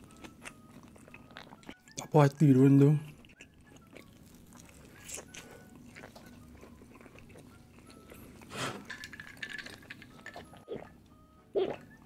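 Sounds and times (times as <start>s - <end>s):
quiet chewing: 0.0s - 2.1s, 3.0s - 12.0s.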